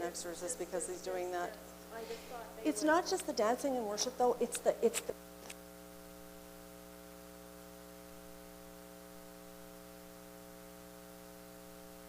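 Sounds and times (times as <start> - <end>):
electrical mains hum: 0.0 - 12.0
faint hiss: 0.2 - 11.9.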